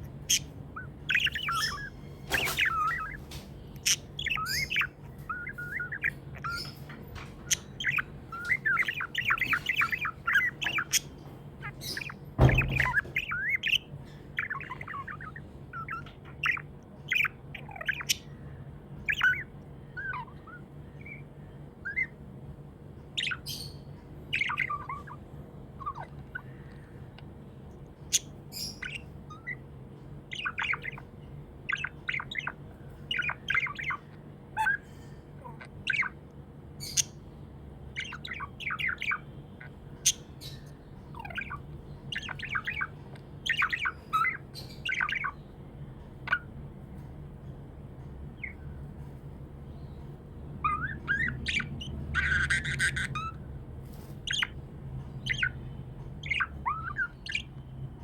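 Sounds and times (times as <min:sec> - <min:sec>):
budgerigar chirping and squawking: 0:00.0 - 0:22.3, 0:23.0 - 0:47.1, 0:48.2 - 0:57.7.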